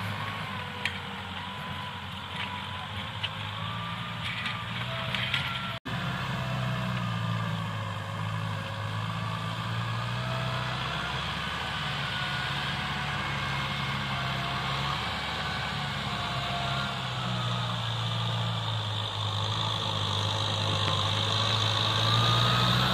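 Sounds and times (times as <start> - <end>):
tractor engine under load: 0.0 - 22.9.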